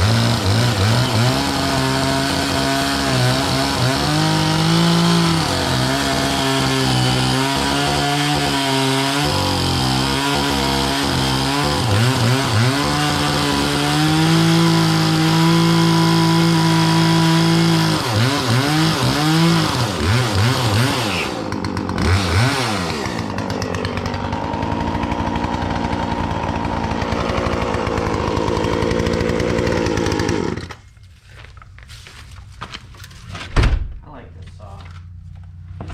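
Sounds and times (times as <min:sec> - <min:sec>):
chainsaw revving: 0:00.0 - 0:30.8.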